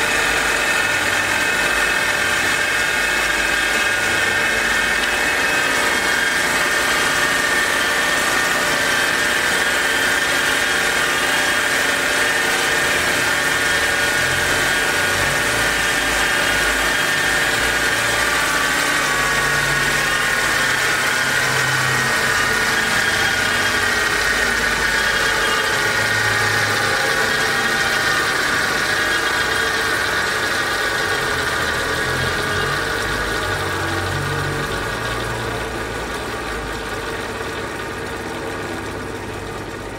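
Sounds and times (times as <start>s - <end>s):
grinder motor hum and whine: 0.0s - 39.9s.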